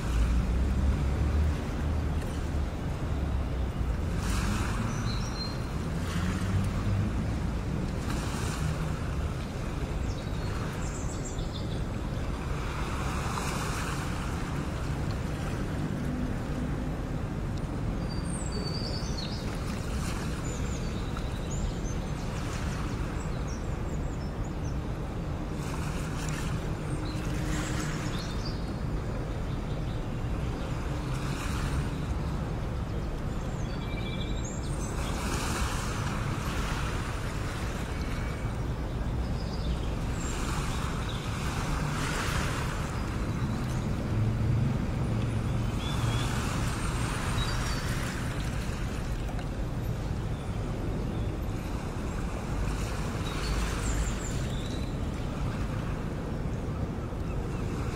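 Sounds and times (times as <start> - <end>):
sea waves washing in: 0.0 - 57.9
wind: 0.0 - 57.9.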